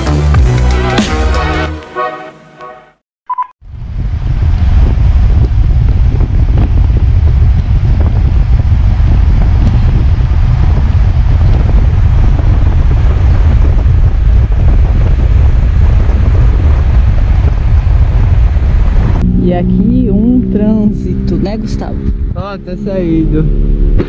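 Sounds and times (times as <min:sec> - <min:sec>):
wind buffeting microphone: 0:03.6 - 0:24.0.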